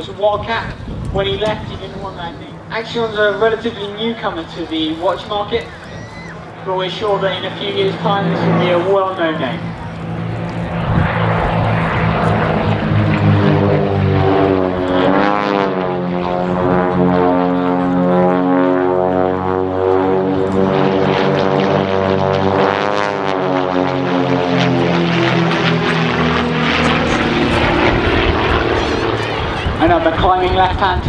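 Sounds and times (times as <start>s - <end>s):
biplane engines and propellers: 0.0s - 31.0s.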